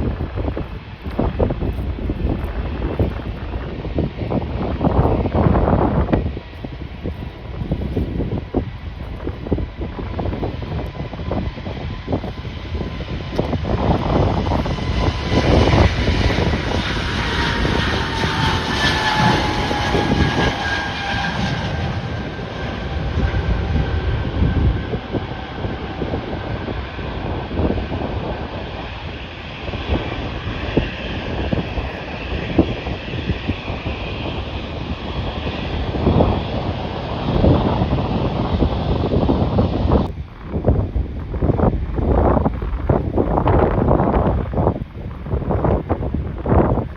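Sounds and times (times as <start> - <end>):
airliner engine whine: 0.0 - 46.9
wind buffeting microphone: 0.0 - 46.9.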